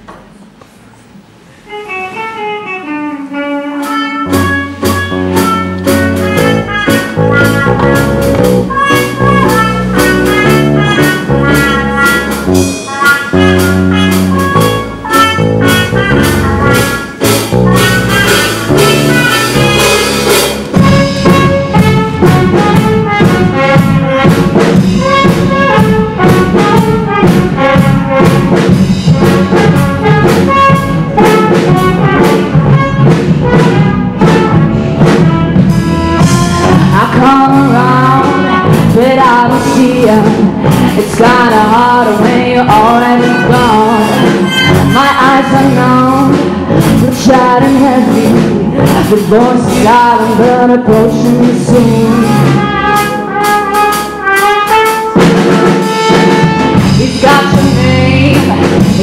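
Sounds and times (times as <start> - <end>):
live jazz-pop band: 1.4 - 59.0
saxophone: 1.6 - 59.0
trumpet: 1.7 - 59.0.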